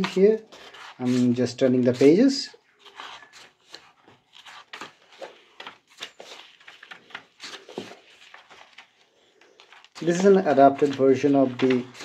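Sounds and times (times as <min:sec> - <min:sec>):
book pages flipping: 0:00.0 - 0:12.0.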